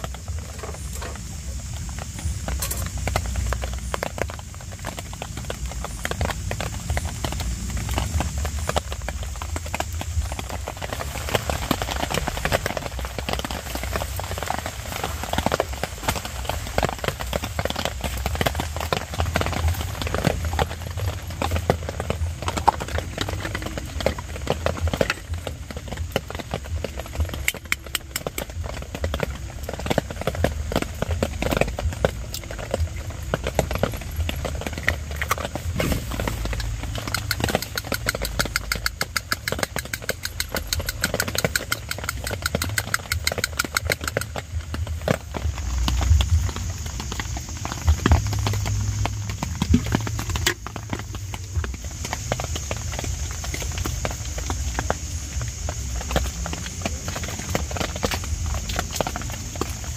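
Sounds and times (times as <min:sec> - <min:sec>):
rain pattering on a tent: 0:00.0 - 0:59.9.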